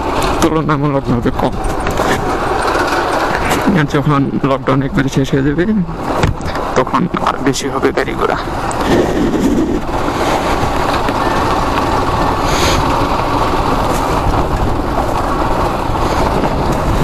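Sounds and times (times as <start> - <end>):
motorcycle engine running: 0.0 - 17.0
wind rush on microphone: 0.0 - 17.0.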